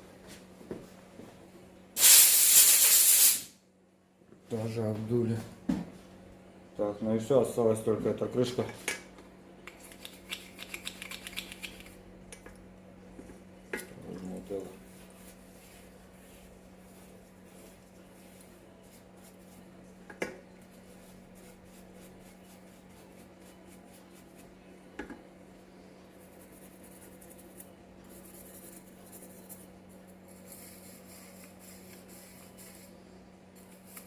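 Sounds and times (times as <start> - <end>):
steady low hum: 3.5 - 34.0.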